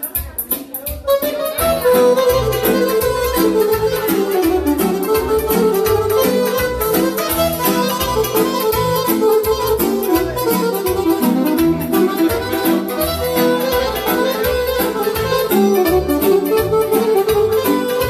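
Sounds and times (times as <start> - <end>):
party band music: 0.0 - 18.0.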